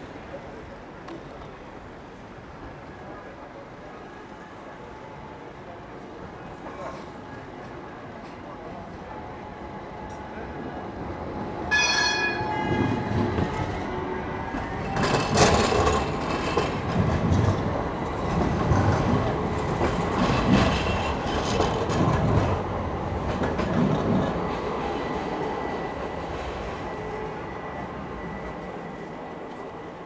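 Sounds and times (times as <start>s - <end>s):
tram high-pitched squeal: 1.5s - 30.0s
tram wheels rumbling on rails: 5.5s - 30.0s.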